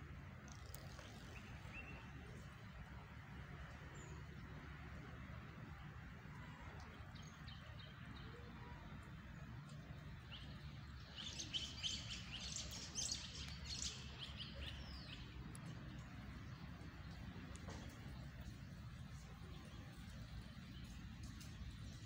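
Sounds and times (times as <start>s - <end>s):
steady low background noise: 0.0s - 22.0s
birds chirping: 0.2s - 22.0s.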